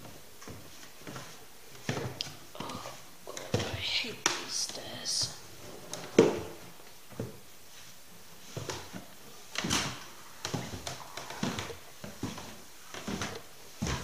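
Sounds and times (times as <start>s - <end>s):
footsteps on hard floor: 0.0s - 14.0s.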